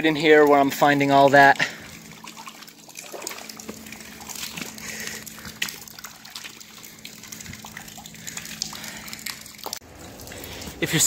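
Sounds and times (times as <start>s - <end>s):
water trickling: 0.0s - 11.0s
water drops hitting water: 0.3s - 10.8s.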